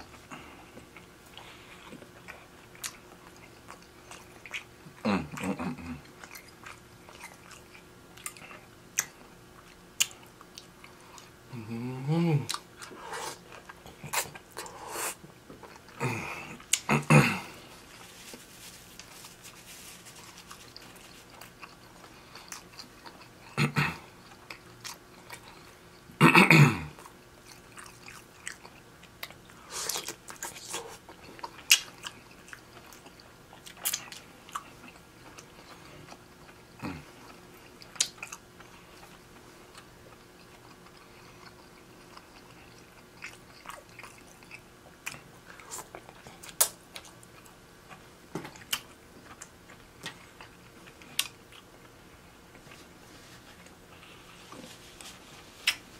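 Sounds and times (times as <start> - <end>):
person chewing food: 0.0 - 11.8, 12.4 - 26.1, 26.9 - 55.9.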